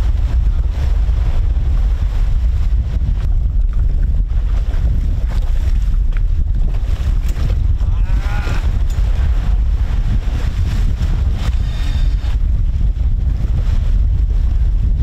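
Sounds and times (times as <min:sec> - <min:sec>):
waves: 0:00.0 - 0:13.0
wind buffeting microphone: 0:00.0 - 0:15.0.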